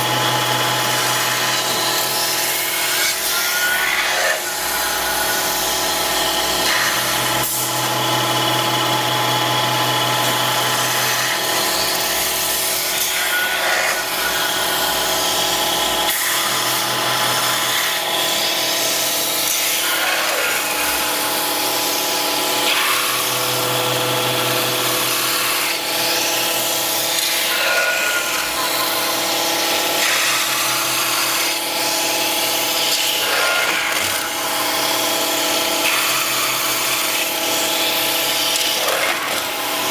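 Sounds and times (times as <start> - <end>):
lathe machine hum: 0.0 - 39.9.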